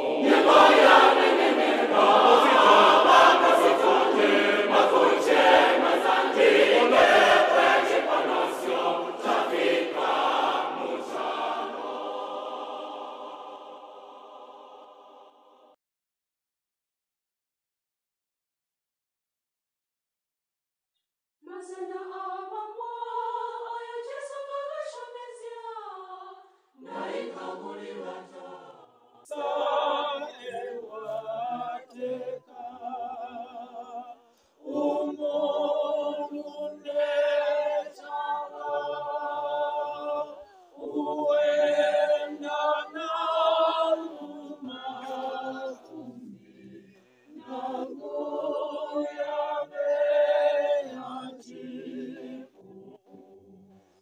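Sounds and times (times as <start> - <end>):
choir singing unaccompanied: 0.0 - 15.8, 21.5 - 53.9.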